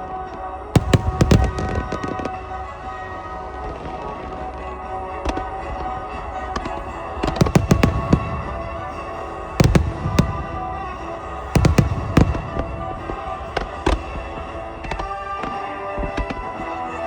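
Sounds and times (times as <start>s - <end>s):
music playing: 0.0s - 17.0s
fireworks bursting with sharp bangs: 0.8s - 4.6s, 5.2s - 17.0s.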